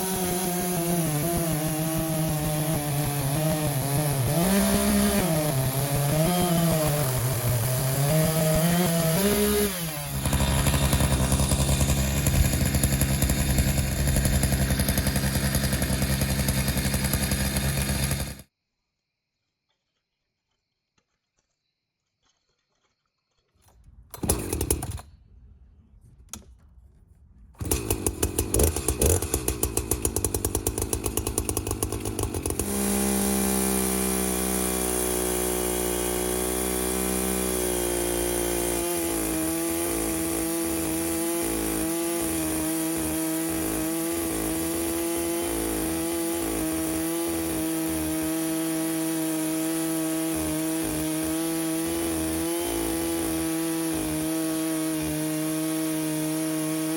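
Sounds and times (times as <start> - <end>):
chainsaw running: 0.0 - 18.5, 24.1 - 25.1, 27.6 - 56.9.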